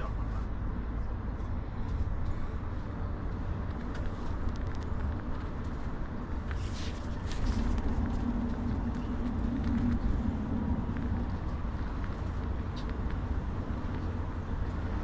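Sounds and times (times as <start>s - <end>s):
coach engine and tyres rumbling: 0.0s - 15.0s.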